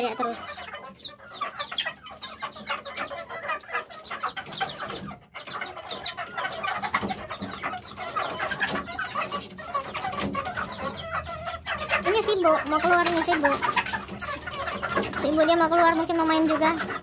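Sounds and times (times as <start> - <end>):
roosters clucking and calling: 0.0 - 17.0.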